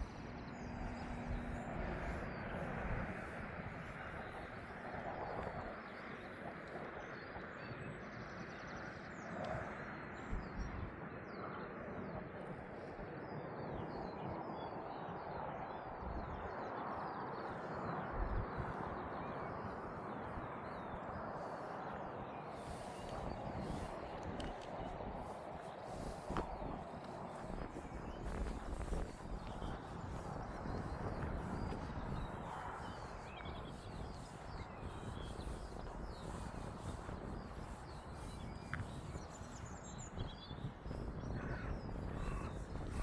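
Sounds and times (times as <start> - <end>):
small birds chirping: 0.0 - 12.3, 16.6 - 43.0
outdoor background noise: 0.0 - 43.0.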